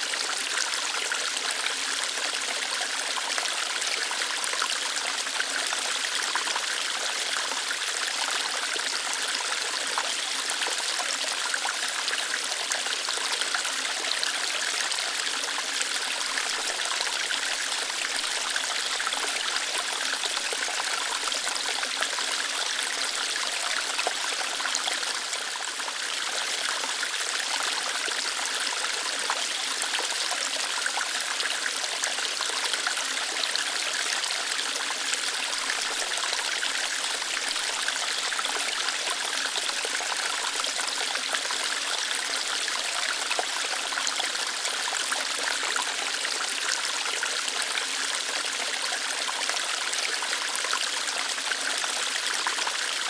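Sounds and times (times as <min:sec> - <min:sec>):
small waterfall over rocks: 0:00.0 - 0:53.0.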